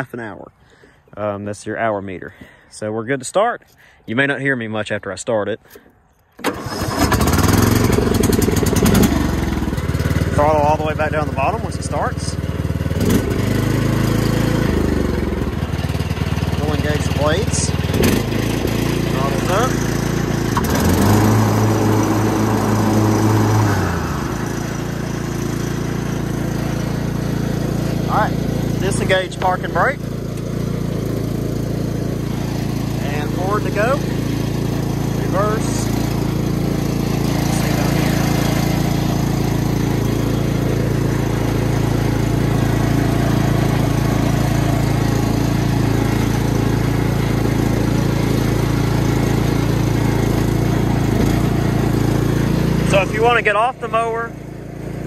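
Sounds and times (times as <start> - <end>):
lawn tractor engine running: 5.7 - 55.0.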